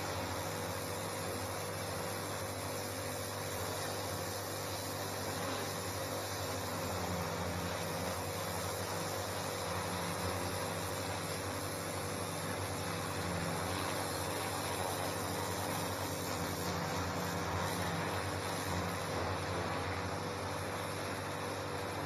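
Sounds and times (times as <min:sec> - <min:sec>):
pressure washer humming: 0:00.0 - 0:22.0
water jet spraying on paving: 0:00.0 - 0:22.0.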